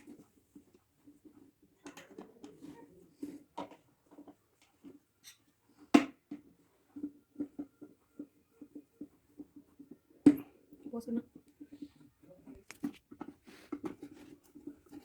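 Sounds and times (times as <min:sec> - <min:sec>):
kettle parts clicking and knocking: 0:00.0 - 0:15.0.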